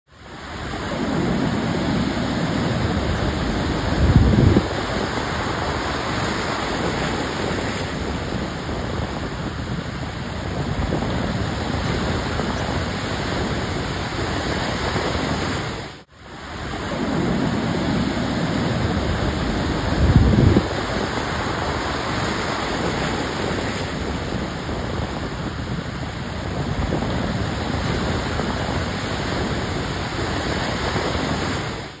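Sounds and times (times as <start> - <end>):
wave crashing: 0.2 - 32.0
wind buffeting microphone: 0.3 - 32.0.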